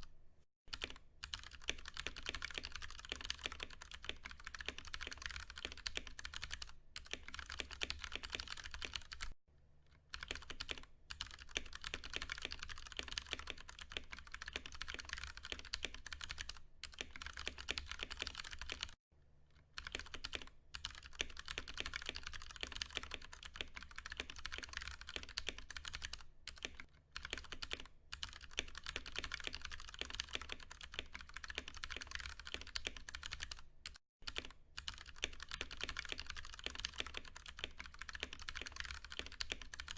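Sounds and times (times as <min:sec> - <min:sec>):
fast mechanical keyboard typing: 0:00.7 - 0:09.4, 0:10.1 - 0:19.0, 0:19.8 - 0:39.9.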